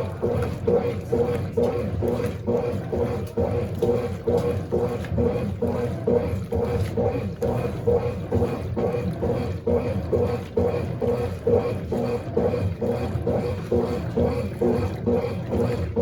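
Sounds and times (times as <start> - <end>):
low motor rumble: 0.0 - 16.0
washing machine churning water: 0.0 - 16.0.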